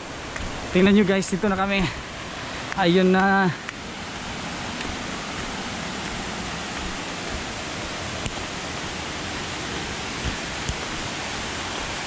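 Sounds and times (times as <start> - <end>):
waterfall pouring onto rocks: 0.1 - 12.0.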